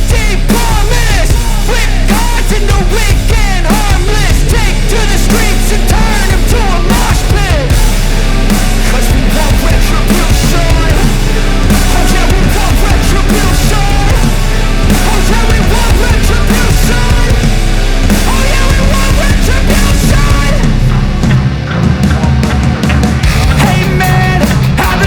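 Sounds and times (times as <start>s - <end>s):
hard rock music: 0.0s - 25.0s.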